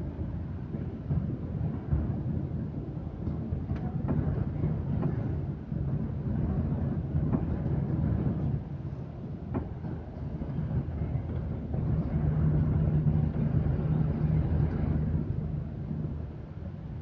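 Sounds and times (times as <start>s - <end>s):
train hum: 0.0s - 17.0s
train running rumble: 0.0s - 17.0s.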